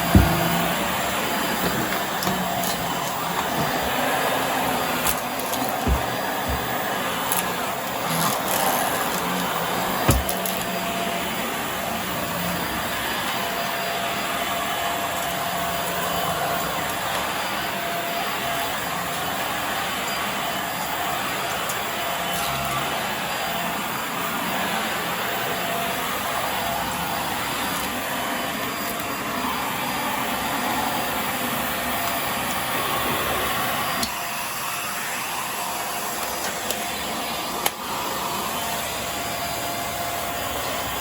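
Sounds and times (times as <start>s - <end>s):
vacuum cleaner running on carpet: 0.0s - 41.0s.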